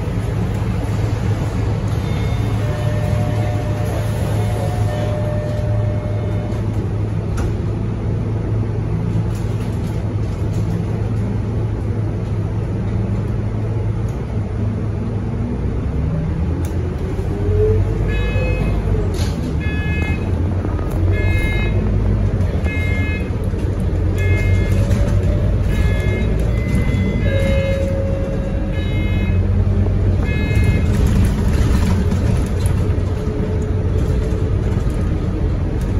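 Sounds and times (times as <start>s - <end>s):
bus diesel engine running: 0.0s - 35.9s.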